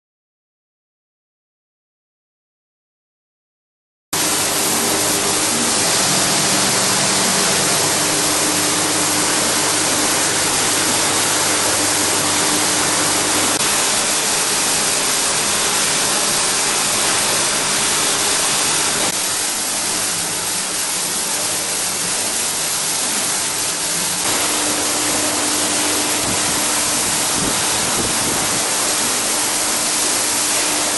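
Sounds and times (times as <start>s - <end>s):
faint machine hum: 4.2s - 30.9s.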